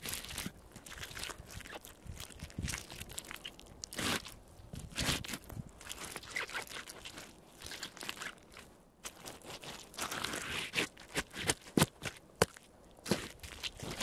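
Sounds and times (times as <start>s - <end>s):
boots crunching mashed fruit: 0.0s - 14.0s.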